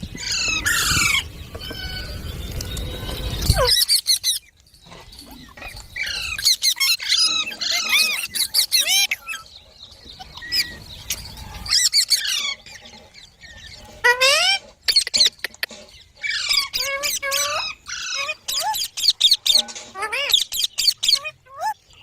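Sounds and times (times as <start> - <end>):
parrot chirping: 0.1 - 4.6, 5.2 - 21.9.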